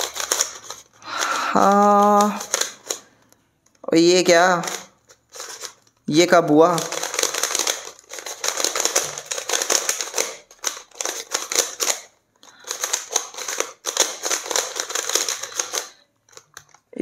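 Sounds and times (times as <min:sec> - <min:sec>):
puzzle cube layers clicking: 0:00.0 - 0:03.1, 0:03.7 - 0:17.0.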